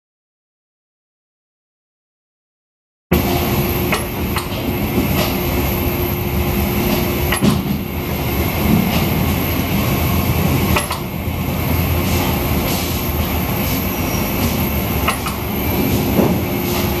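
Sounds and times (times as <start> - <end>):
machinery rumble and churning water: 3.2 - 17.0.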